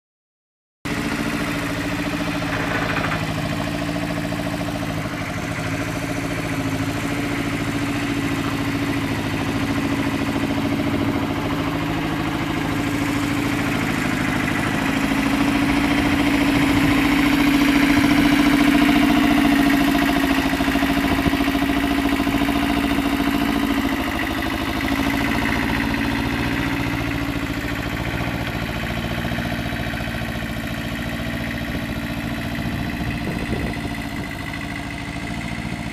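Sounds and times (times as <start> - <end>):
excavator engine running: 0.9 - 35.9.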